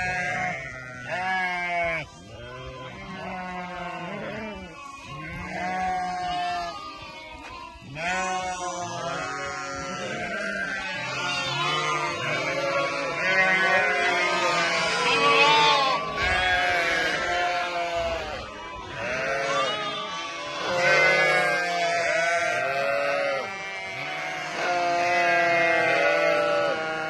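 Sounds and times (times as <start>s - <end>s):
sheep bleating: 0.0s - 27.0s.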